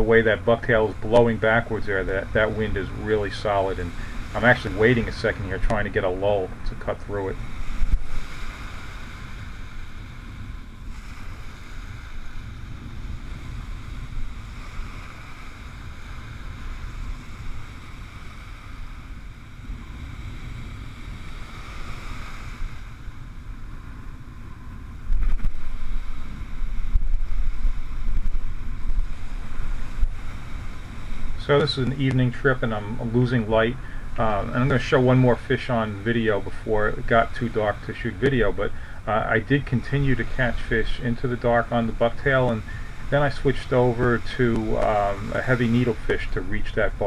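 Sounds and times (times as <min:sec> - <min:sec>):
surf breaking: 0:00.0 - 0:23.4, 0:25.0 - 0:47.0
wind rumbling on microphone: 0:00.0 - 0:47.0.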